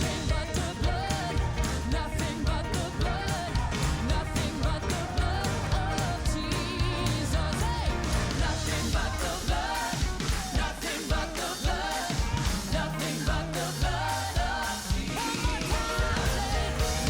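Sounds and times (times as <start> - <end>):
band with drums and bass: 0.0 - 17.0
worship singing: 0.0 - 17.0.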